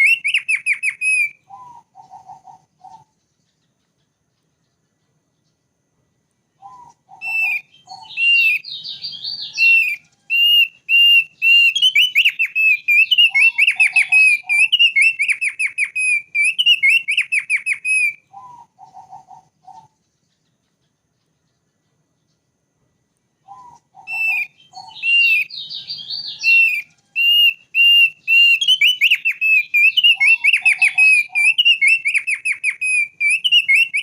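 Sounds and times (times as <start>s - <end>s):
bird whistling song: 0.0s - 5.7s, 6.5s - 22.5s, 23.4s - 34.0s.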